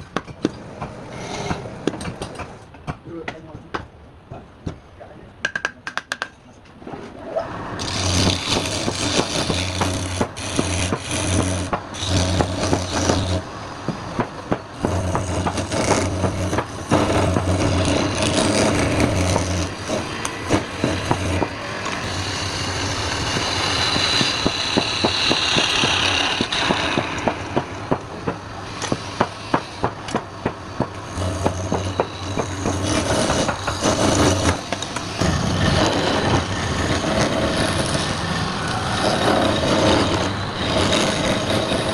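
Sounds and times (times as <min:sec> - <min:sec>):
tool scraping on wood lathe: 0:01.1 - 0:02.6, 0:07.8 - 0:41.9
low hum: 0:07.1 - 0:41.9.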